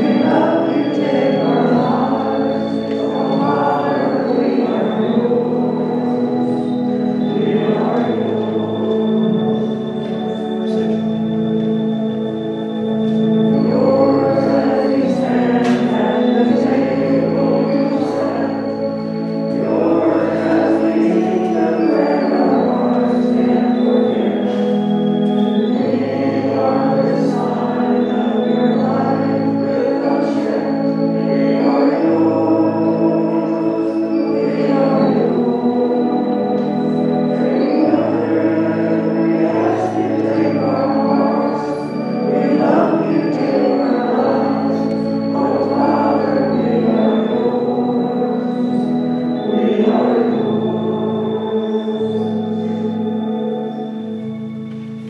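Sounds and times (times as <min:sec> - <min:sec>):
singing: 0:00.0 - 0:11.4, 0:12.5 - 0:55.0
church organ playing chords: 0:00.0 - 0:55.0.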